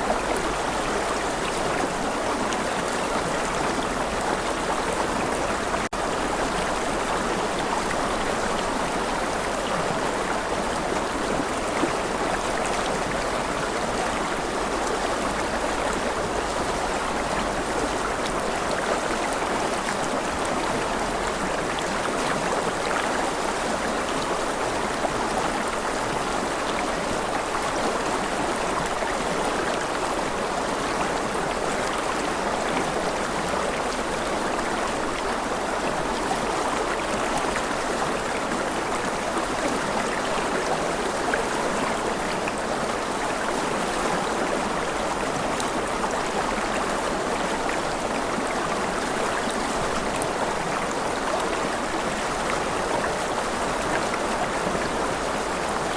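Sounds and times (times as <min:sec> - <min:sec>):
stream water running: 0:00.0 - 0:55.9.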